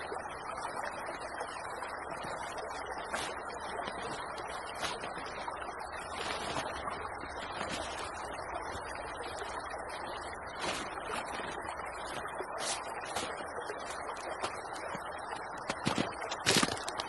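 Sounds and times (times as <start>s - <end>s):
creek flowing: 0.0s - 17.0s.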